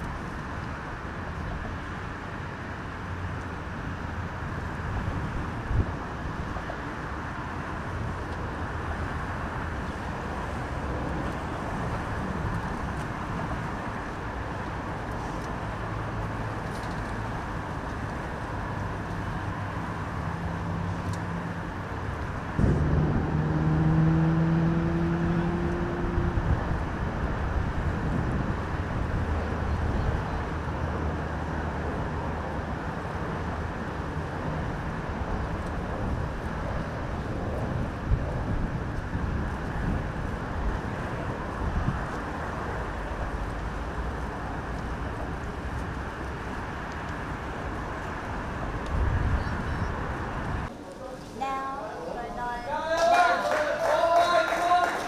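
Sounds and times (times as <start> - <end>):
loud vehicle engine hum: 0.0 - 50.7
road traffic: 0.0 - 55.0.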